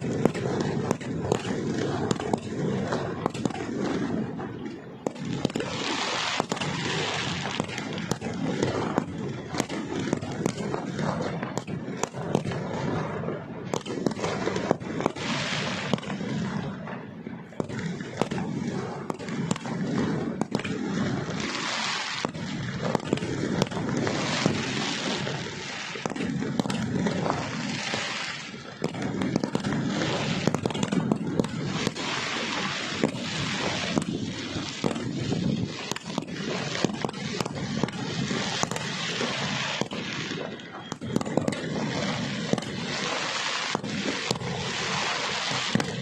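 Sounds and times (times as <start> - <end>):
fireworks bangs and pops: 0.0 - 46.0
hissing crackling bursts: 5.0 - 13.0, 13.7 - 16.8, 17.5 - 46.0.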